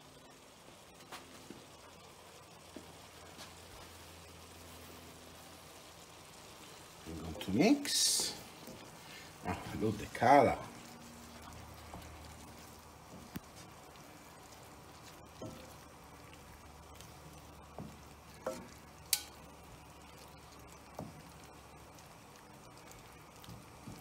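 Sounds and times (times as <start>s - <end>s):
faint sizzle: 0.0s - 24.0s
spatula stirring pasta in pan: 1.6s - 24.0s.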